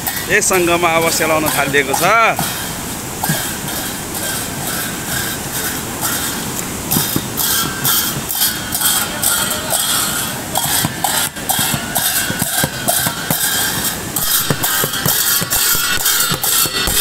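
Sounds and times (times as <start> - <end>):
brass hand cymbals clashing: 0.0 - 17.0
fast river rushing: 0.0 - 17.0.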